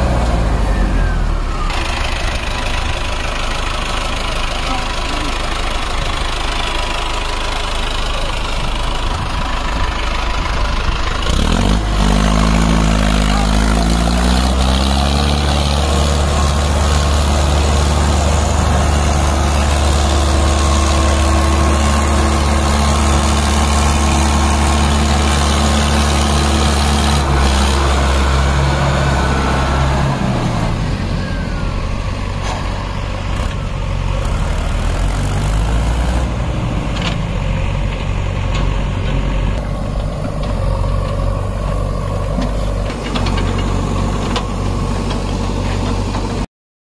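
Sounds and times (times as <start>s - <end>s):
heavy diesel engine running: 0.0s - 46.5s.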